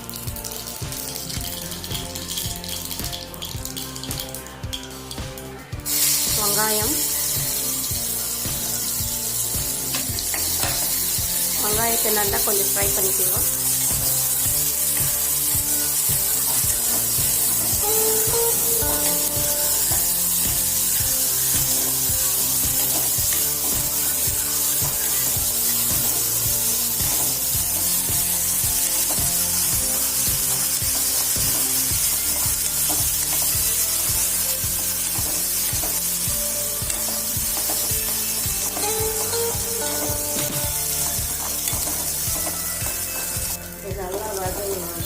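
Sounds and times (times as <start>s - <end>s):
background music with steady beat: 0.0s - 45.0s
onions sizzling in oil: 0.0s - 45.0s.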